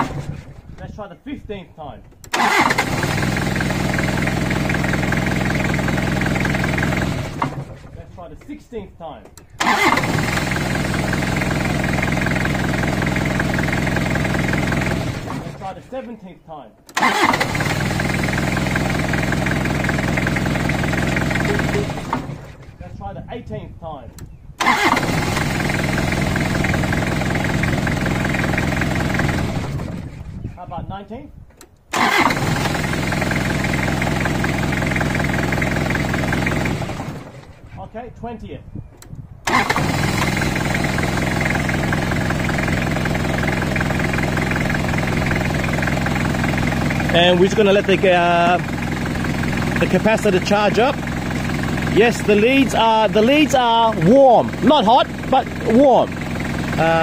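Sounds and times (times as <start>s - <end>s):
diesel engine starting and running: 0.0s - 0.8s, 2.1s - 8.2s, 9.3s - 15.9s, 16.9s - 22.9s, 24.2s - 30.5s, 31.6s - 37.8s, 39.0s - 57.0s.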